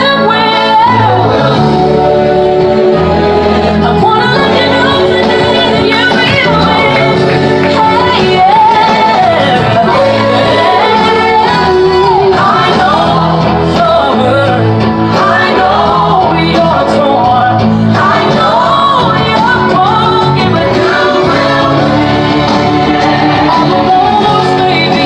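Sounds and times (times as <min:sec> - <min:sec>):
gospel worship singing: 0:00.0 - 0:25.0
instrumental backing: 0:00.0 - 0:25.0.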